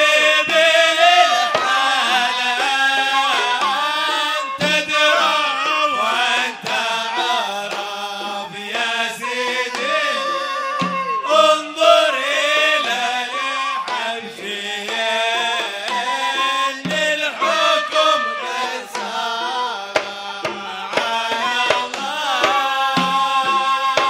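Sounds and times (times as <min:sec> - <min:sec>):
hand drums beating: 0:00.0 - 0:24.0
men singing: 0:00.0 - 0:24.0.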